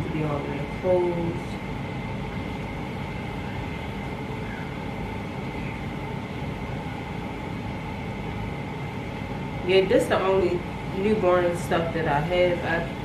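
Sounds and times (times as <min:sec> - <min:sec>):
background hum and hiss: 0:00.0 - 0:13.0
high constant whine: 0:00.0 - 0:13.0.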